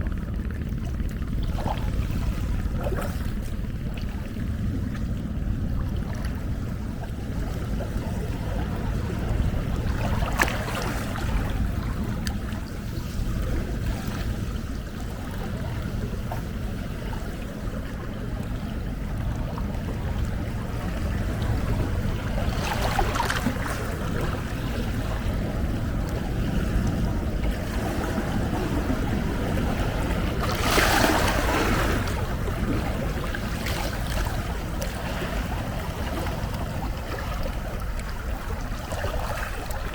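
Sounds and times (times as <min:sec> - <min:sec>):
sea waves rumbling: 0:00.0 - 0:39.9
waves breaking and washing up: 0:00.0 - 0:39.9.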